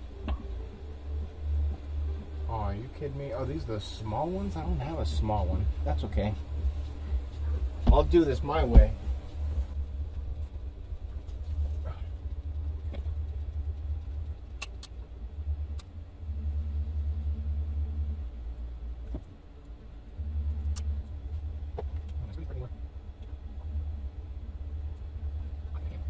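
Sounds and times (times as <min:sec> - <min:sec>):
low rumble: 0:00.0 - 0:26.0
steady hum: 0:00.0 - 0:26.0.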